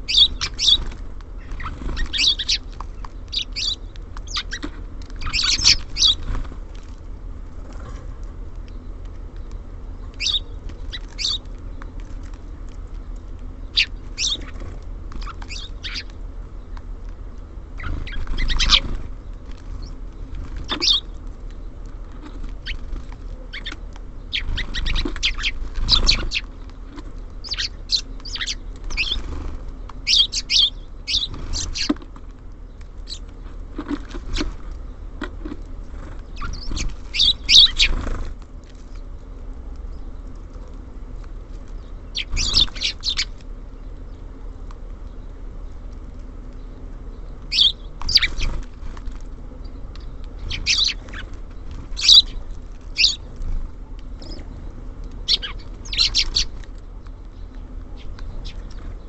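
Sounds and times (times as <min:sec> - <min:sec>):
wings fluttering: 0:00.0 - 0:46.7, 0:47.3 - 0:59.0
songbirds chirping: 0:00.0 - 0:59.0.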